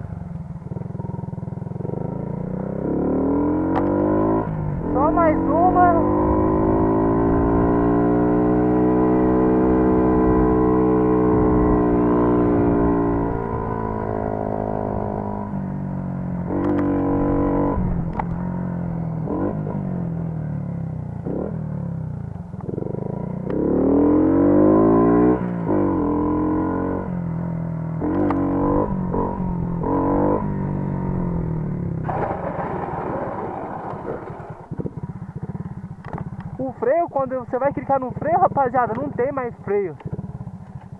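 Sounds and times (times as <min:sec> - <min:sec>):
moped engine revving: 0:00.5 - 0:40.9.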